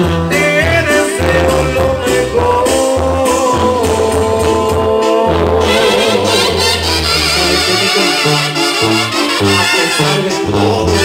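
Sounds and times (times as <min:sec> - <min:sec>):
pulsing bass line: 0:00.0 - 0:11.0
trumpets and trombones: 0:00.0 - 0:11.0.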